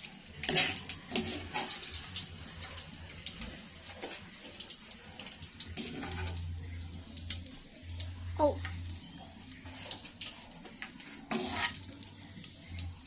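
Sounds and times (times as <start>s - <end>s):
squid deep-frying in oil: 0.0s - 13.0s.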